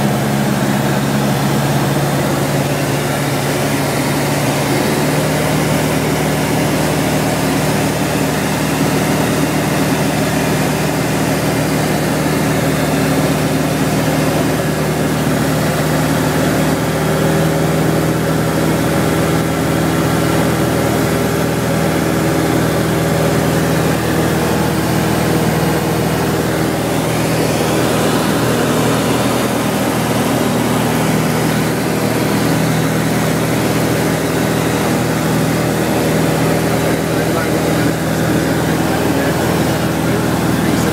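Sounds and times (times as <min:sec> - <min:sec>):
light aircraft engine in flight: 0:00.0 - 0:40.9.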